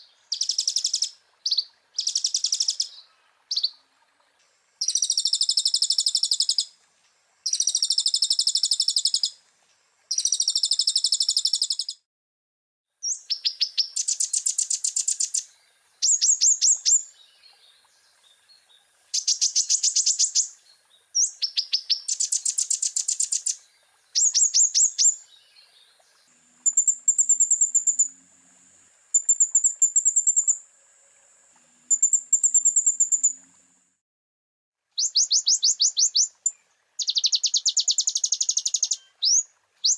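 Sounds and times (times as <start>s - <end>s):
sunbird singing high trills: 0.0s - 3.8s, 4.8s - 6.8s, 7.5s - 9.4s, 10.1s - 12.0s, 13.0s - 28.2s, 29.1s - 30.6s, 31.8s - 33.6s, 35.0s - 39.9s.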